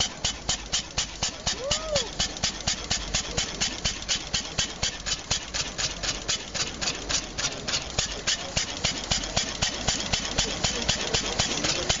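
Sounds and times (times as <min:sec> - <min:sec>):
single-cylinder engine idling: 0:00.0 - 0:12.0.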